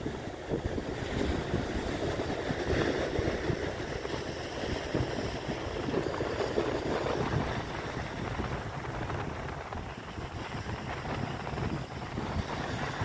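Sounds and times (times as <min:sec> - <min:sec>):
sea waves breaking over rocks: 0:00.0 - 0:13.0
wind buffeting microphone: 0:00.0 - 0:13.0.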